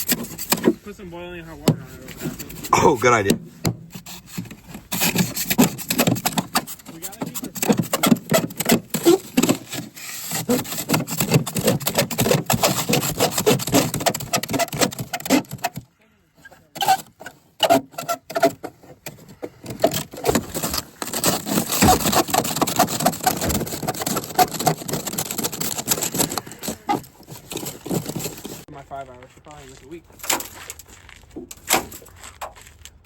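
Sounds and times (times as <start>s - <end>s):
scraping on windshield glass: 0.0s - 15.9s, 16.5s - 28.7s.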